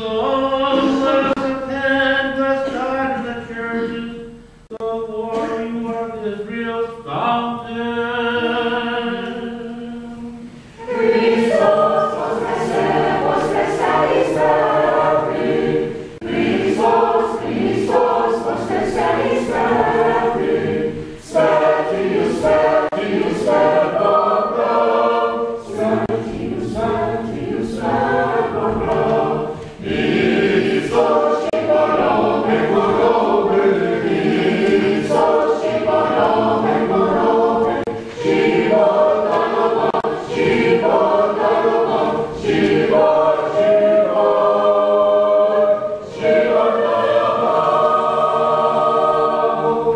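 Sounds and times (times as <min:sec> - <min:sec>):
choir singing chant: 0:00.0 - 0:49.9.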